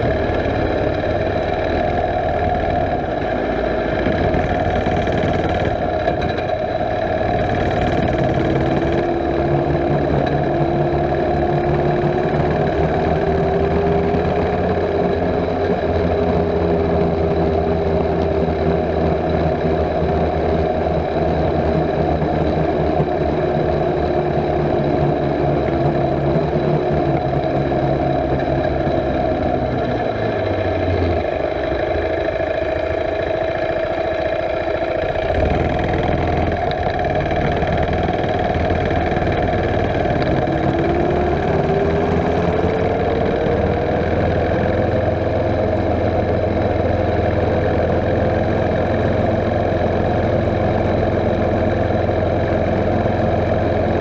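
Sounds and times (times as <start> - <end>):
mini bike engine running: 0.0 - 54.0.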